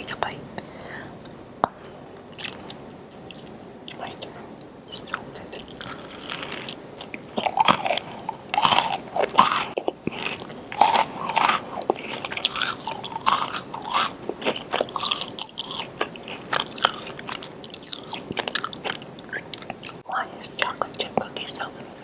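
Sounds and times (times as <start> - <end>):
person chewing crunchy cookie: 2.3 - 4.2, 4.9 - 21.7.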